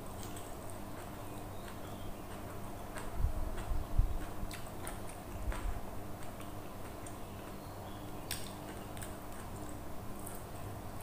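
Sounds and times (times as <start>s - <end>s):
chewing: 0.0s - 10.7s.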